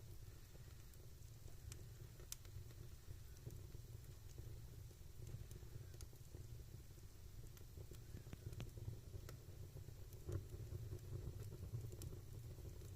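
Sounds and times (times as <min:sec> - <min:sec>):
fire crackling in fireplace: 0:00.0 - 0:12.9.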